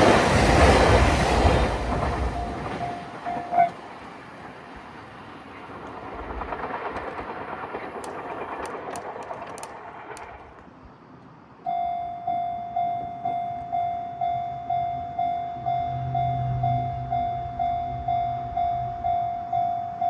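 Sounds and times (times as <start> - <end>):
train rumbling past: 0.0 - 19.7.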